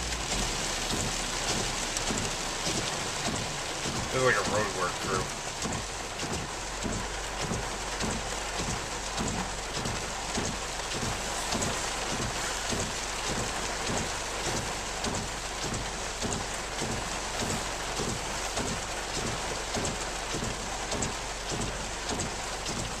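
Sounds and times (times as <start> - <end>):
heavy rain on a car: 0.0 - 23.0
low regular thumping: 0.0 - 23.0.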